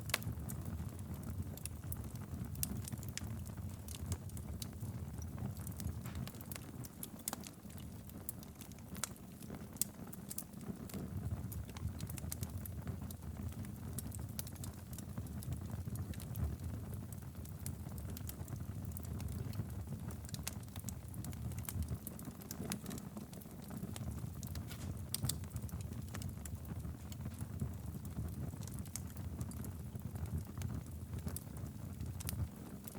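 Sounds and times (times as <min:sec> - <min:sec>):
fire crackling and popping: 0:00.0 - 0:32.9
low rumble of flames: 0:00.0 - 0:32.9.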